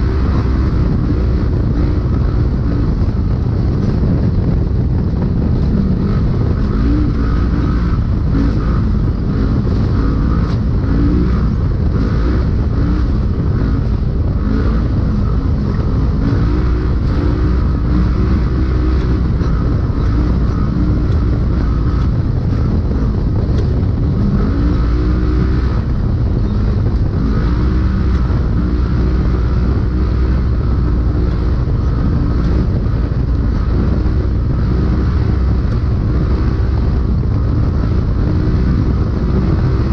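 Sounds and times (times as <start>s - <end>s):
engine revving under load: 0.0s - 39.9s.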